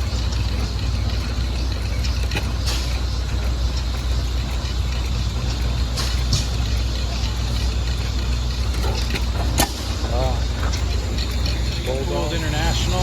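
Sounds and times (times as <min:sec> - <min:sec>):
gas engine rumbling: 0:00.0 - 0:13.0
sharp clicks: 0:00.0 - 0:13.0.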